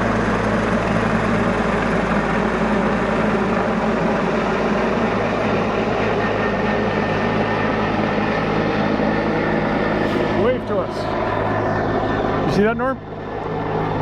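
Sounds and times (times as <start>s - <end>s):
helicopter engine and rotor drone: 0.0s - 14.0s.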